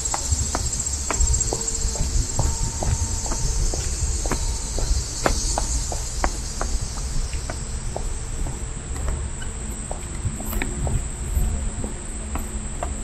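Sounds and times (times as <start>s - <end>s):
footsteps going down steps: 0.0s - 13.0s
insects chirring: 0.0s - 13.0s
wind rumble on microphone: 0.0s - 13.0s.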